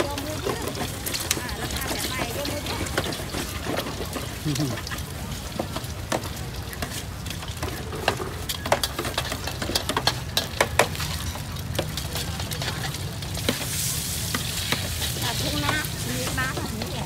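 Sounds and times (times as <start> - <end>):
metal utensils clacking: 0.0 - 17.0.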